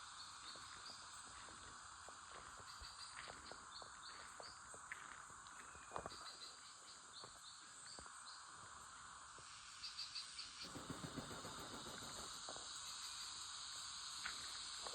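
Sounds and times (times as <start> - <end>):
insect drone: 0.0 - 14.9.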